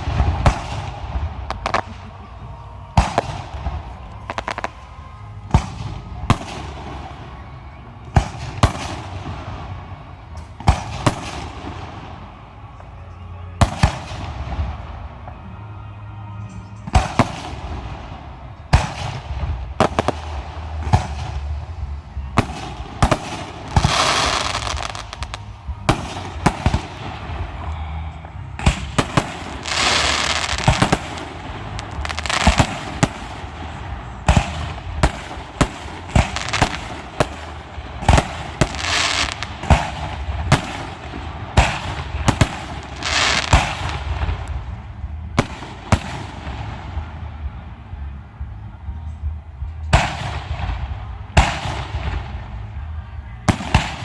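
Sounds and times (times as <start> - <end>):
firework crackling: 0.0 - 15.8, 16.9 - 48.1.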